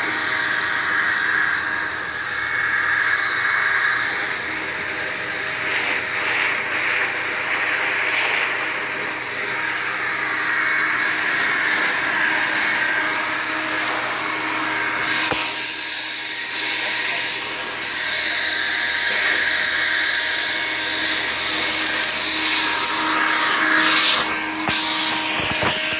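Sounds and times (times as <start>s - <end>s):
leaf blower running: 0.0s - 25.9s.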